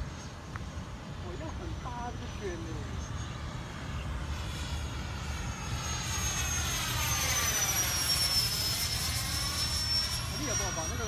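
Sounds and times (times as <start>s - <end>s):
model jet fan whining flyby: 0.0s - 11.0s.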